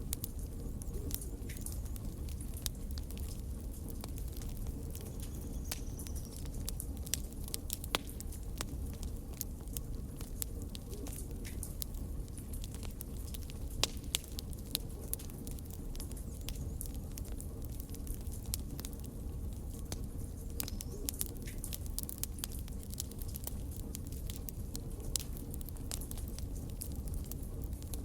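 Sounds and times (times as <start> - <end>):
fire crackles and pops: 0.0 - 28.0
fire rumbling: 0.0 - 28.0.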